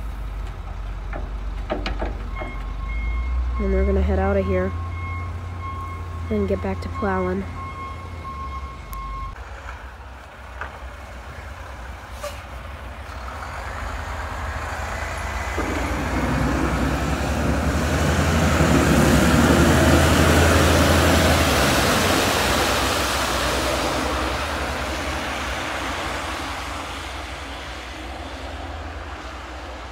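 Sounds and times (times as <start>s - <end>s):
diesel truck passing by: 0.0s - 29.9s.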